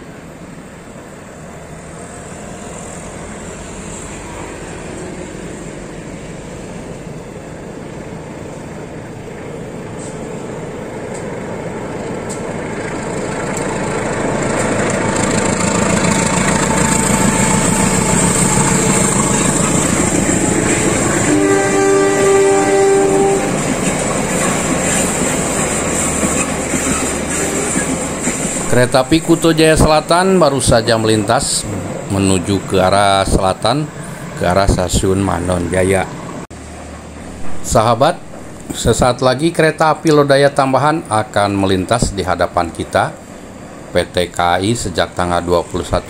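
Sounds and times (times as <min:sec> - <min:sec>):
diesel locomotive engine: 0:00.0 - 0:46.0
train wheels on rails: 0:00.2 - 0:46.0.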